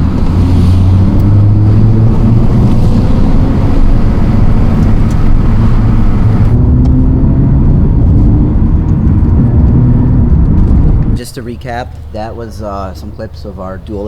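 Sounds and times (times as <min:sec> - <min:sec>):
car exhaust drone: 0:00.0 - 0:13.3
road and wind noise: 0:00.0 - 0:14.0.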